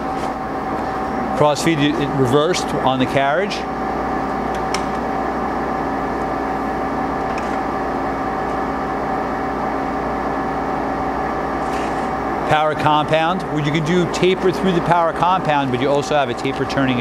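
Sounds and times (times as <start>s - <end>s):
lathe humming and whining: 0.0s - 17.0s.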